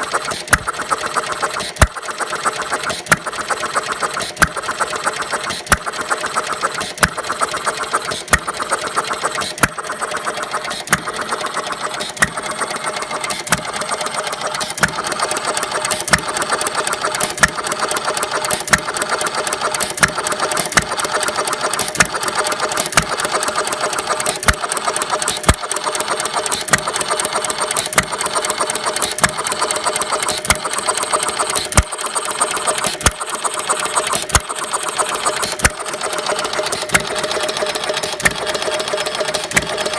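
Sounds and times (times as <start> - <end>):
fast mechanical clatter: 0.0 - 39.9
engine firing pops: 0.1 - 39.9.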